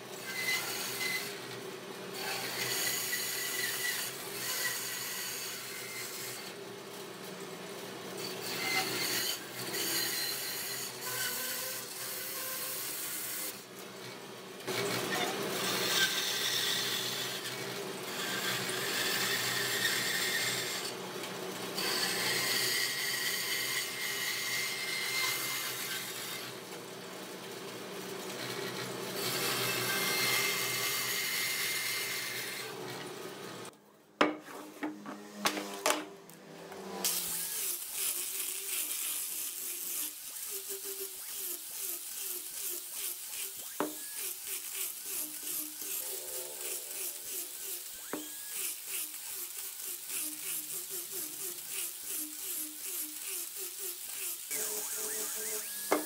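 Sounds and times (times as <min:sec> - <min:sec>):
bandsaw cutting wood: 0:00.0 - 0:06.6, 0:08.2 - 0:26.8, 0:28.3 - 0:33.4, 0:34.2 - 0:56.0.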